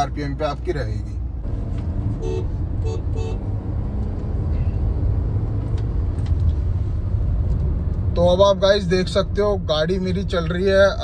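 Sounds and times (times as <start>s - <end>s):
car engine rumble in cabin: 0.0s - 11.0s
tyre and road noise: 0.0s - 11.0s.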